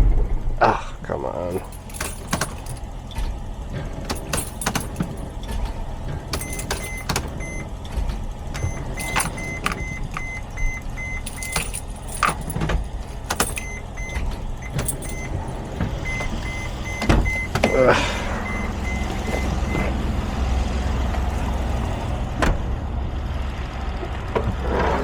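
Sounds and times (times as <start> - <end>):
clicks and knocks in cab: 1.4 - 22.6
dashboard warning chime beeping: 1.5 - 22.2.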